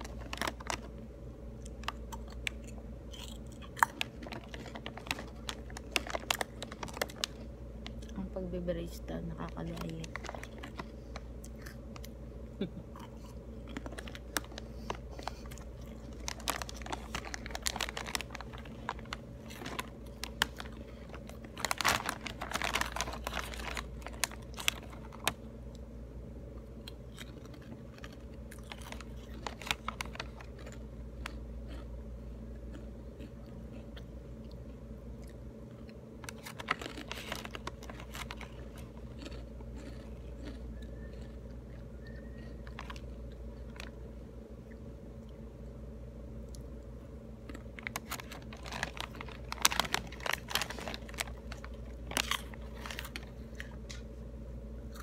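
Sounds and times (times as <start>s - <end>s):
chips being chewed: 0.0s - 8.2s, 9.3s - 25.8s, 26.6s - 45.4s, 47.4s - 54.2s
steady low hum: 0.0s - 55.0s.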